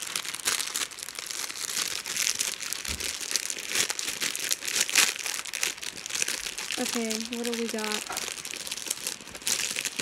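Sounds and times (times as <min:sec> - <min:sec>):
foil pack crinkling: 0:00.0 - 0:10.0.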